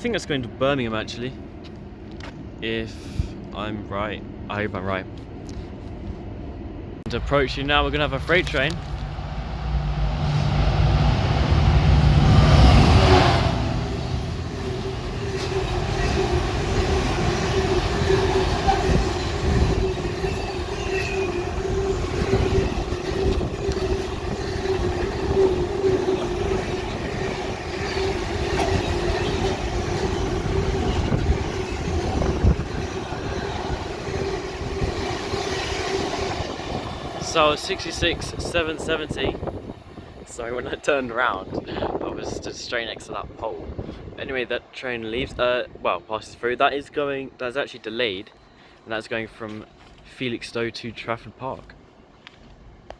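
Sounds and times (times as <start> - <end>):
diesel locomotive engine: 0.0 - 46.4.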